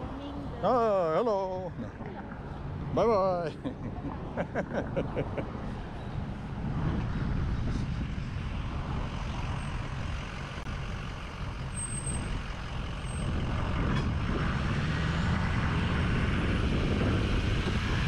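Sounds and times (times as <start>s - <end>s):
road traffic: 0.0s - 18.0s
truck running close by: 0.0s - 18.0s
wind rumble on microphone: 1.5s - 18.0s.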